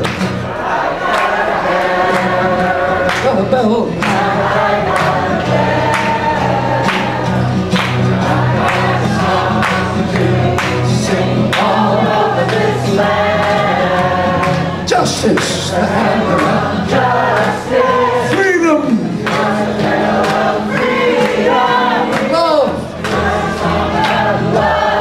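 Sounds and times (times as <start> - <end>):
acoustic guitar strumming: 0.0 - 25.0
group of voices singing: 0.0 - 25.0.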